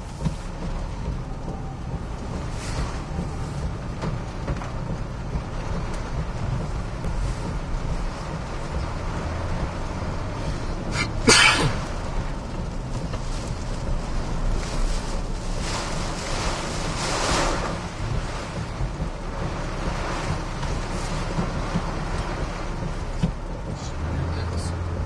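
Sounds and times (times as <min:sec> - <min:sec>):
low engine rumble: 0:00.0 - 0:25.0
wind and rain buffeting vehicle: 0:00.0 - 0:25.0.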